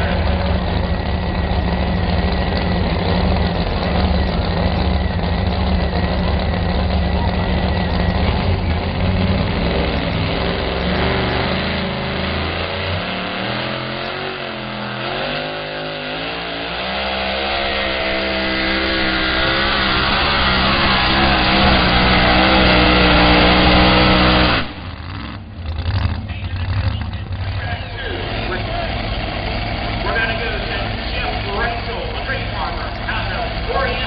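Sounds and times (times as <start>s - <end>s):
truck engine at full throttle: 0.0s - 34.0s.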